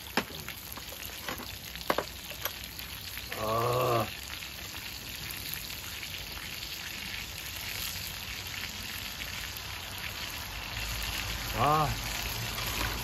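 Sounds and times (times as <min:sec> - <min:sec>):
meat sizzling in a grill pan: 0:00.0 - 0:13.0.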